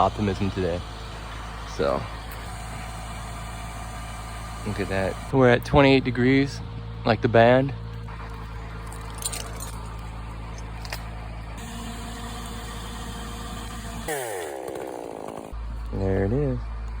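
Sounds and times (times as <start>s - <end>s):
crane engine running: 0.0s - 16.0s.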